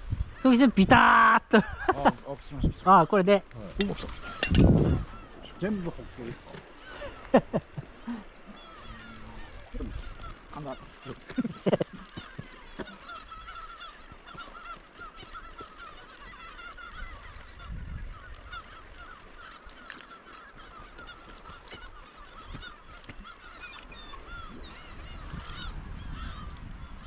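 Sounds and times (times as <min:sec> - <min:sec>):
flock of birds honking: 0:00.1 - 0:27.0.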